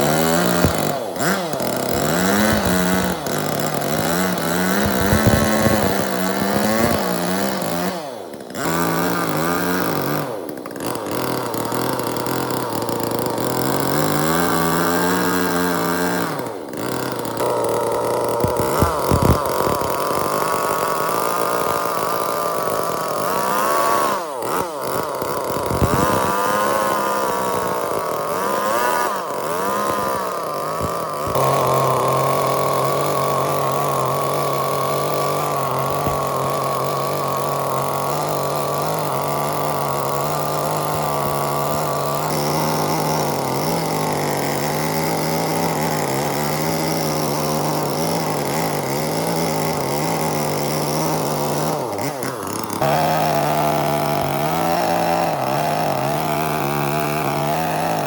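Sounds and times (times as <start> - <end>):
power tool running under load: 0.0 - 58.0.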